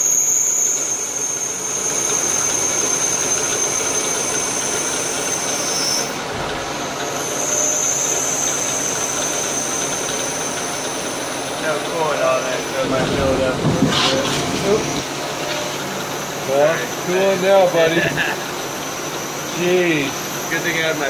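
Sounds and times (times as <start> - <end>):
lathe running with whine: 0.0 - 21.0.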